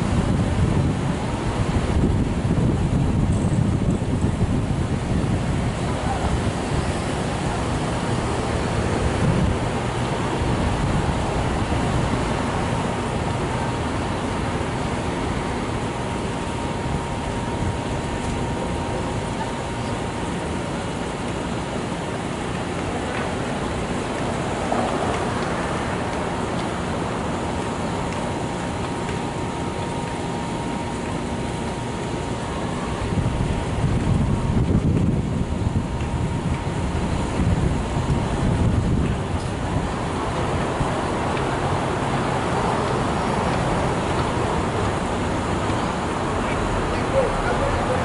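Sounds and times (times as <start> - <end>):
distant subway trains running: 0.0 - 48.0
faint steady whine: 0.0 - 48.0
road traffic: 0.0 - 48.0
wind buffeting microphone: 0.0 - 48.0.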